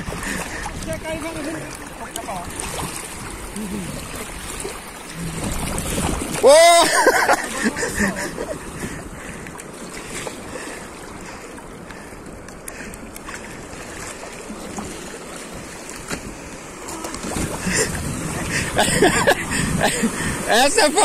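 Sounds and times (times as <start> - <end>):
wind on microphone: 0.0 - 10.6, 12.7 - 20.9
water washing around boat: 0.0 - 21.0.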